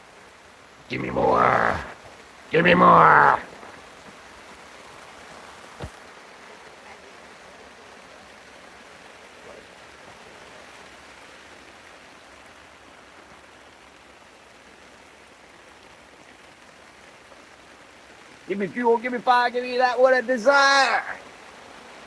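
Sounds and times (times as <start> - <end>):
steady rain pattering: 0.0 - 22.0.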